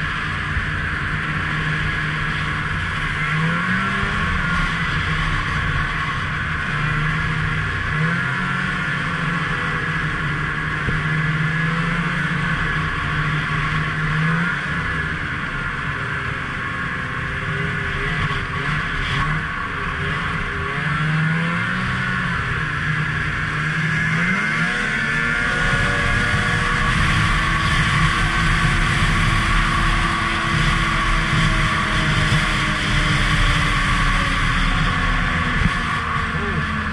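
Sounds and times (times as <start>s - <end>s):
snowmobile engine revving: 0.0s - 36.9s
steady rushing noise: 0.0s - 36.9s.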